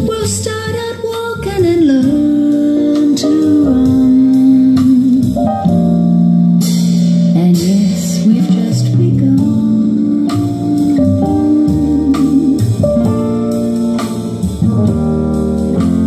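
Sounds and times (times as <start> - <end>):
instrumental music through speakers: 0.0 - 16.0.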